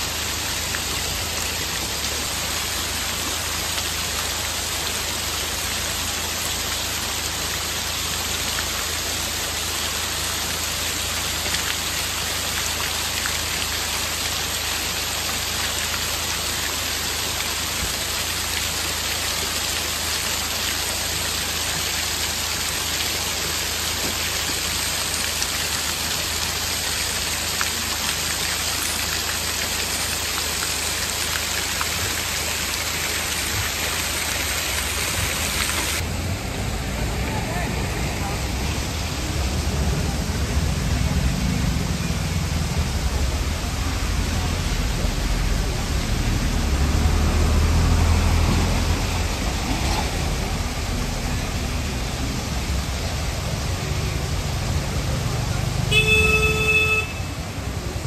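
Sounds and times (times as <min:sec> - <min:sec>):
waterfall splashing on rock: 0:00.0 - 0:58.0.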